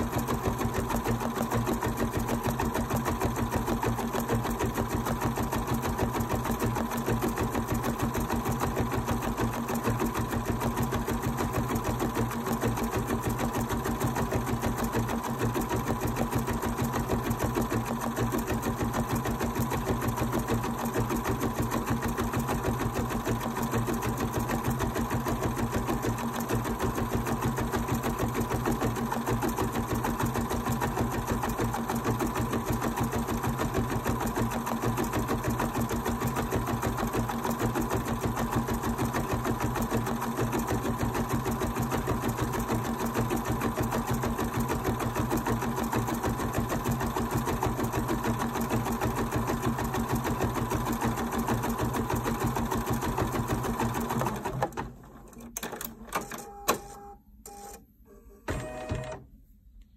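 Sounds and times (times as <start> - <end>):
embroidery machine stitching: 0.0 - 56.9.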